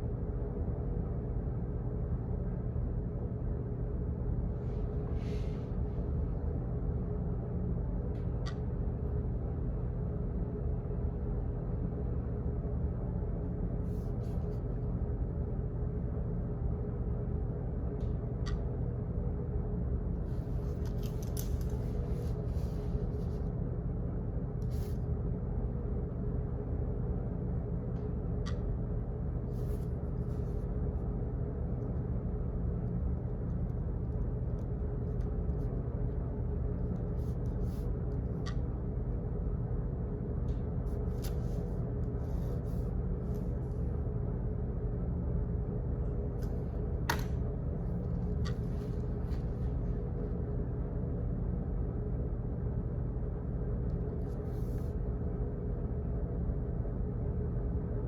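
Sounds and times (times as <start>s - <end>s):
low hum: 0.0s - 58.0s.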